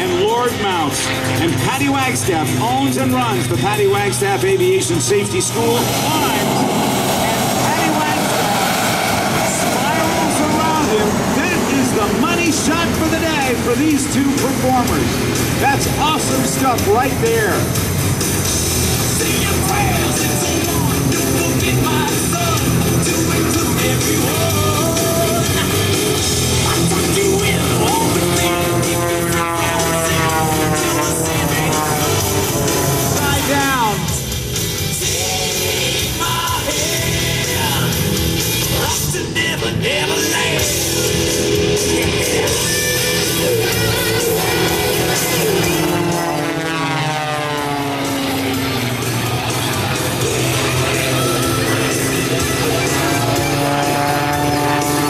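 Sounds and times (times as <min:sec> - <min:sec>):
propeller plane passing: 0:00.0 - 0:55.0
rock music with singing: 0:00.0 - 0:55.0.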